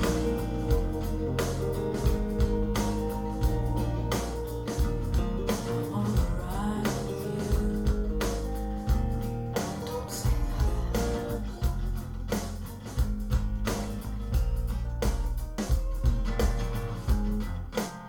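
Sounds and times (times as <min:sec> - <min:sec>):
instrumental rock music over speakers: 0:00.0 - 0:18.0.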